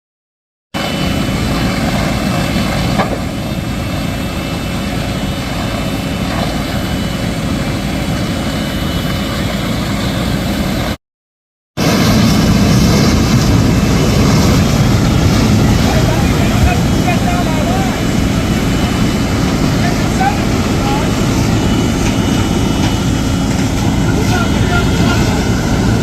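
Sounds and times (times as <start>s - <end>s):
engine rumble: 0.8s - 11.0s, 11.8s - 26.0s.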